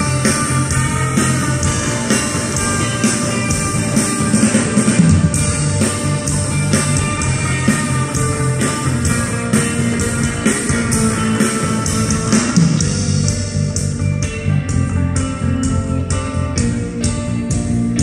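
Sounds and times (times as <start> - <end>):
rock band playing instrumental: 0.0 - 18.0.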